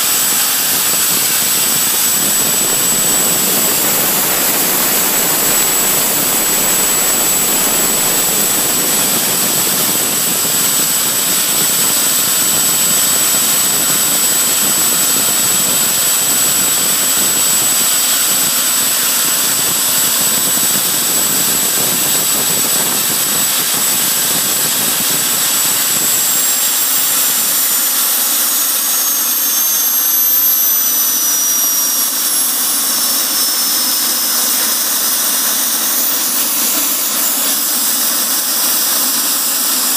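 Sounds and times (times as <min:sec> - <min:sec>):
jet engine roar: 0:00.0 - 0:39.8
high turbine whine: 0:00.0 - 0:39.9.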